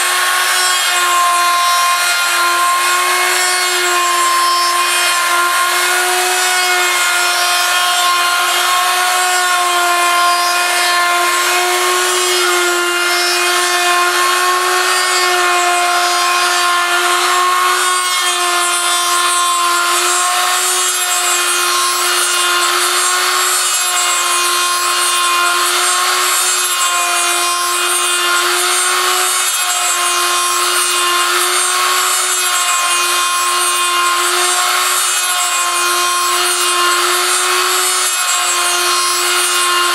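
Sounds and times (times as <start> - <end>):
rotary tool whine: 0.0 - 39.9.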